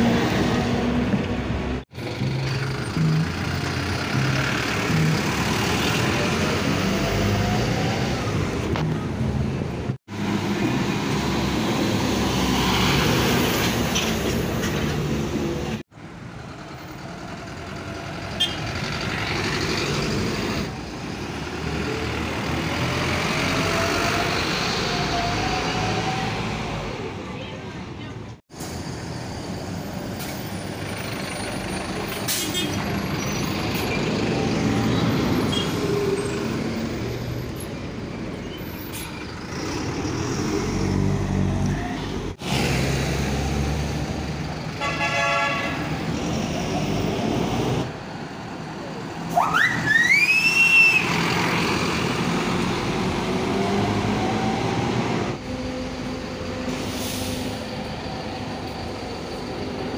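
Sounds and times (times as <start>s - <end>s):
diesel buses pulling away: 0.0s - 59.9s
street traffic: 0.0s - 59.9s.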